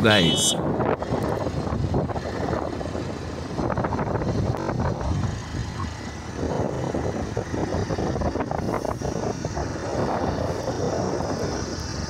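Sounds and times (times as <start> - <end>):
road and wind noise: 0.0 - 12.0
motorcycle engine running: 0.3 - 12.0.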